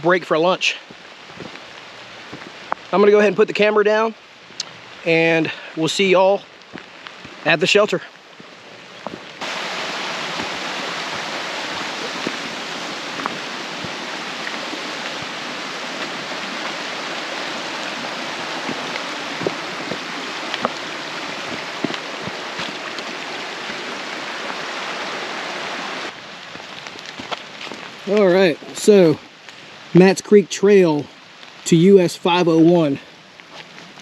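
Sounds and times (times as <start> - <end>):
creek water rushing: 0.0 - 34.0
raindrops ticking: 0.3 - 24.8, 26.1 - 34.0.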